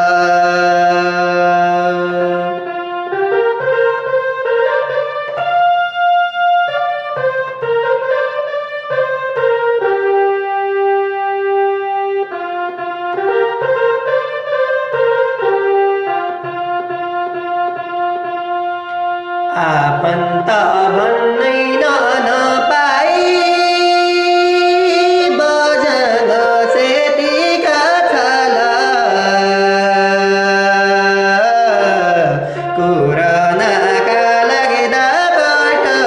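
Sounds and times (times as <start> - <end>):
harmonium melody: 0.0 - 36.0.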